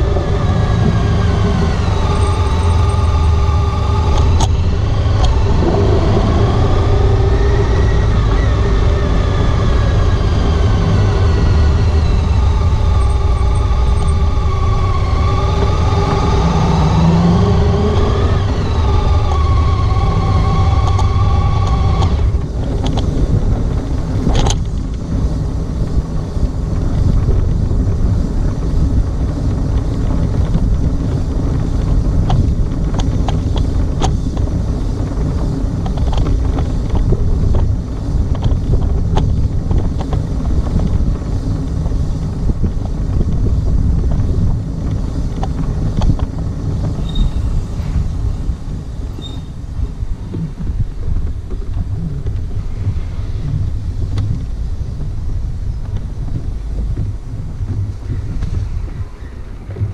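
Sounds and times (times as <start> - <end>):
motorcycle engine rumble: 0.0 - 59.9
wind noise on microphone: 0.0 - 59.9.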